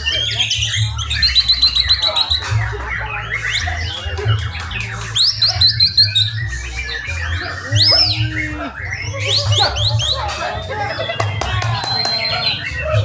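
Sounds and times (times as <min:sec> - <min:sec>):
birds singing whistled notes: 0:00.0 - 0:13.0.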